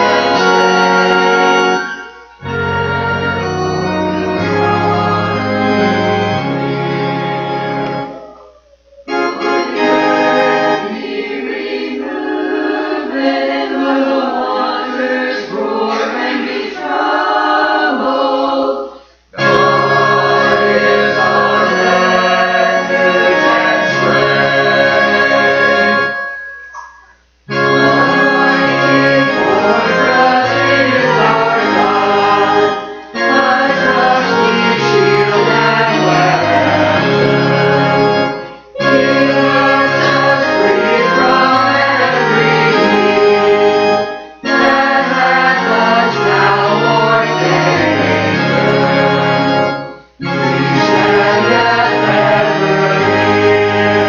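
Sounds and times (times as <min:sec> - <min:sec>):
church choir singing: 0:00.0 - 0:54.0
keyboard accompaniment: 0:00.0 - 0:54.0.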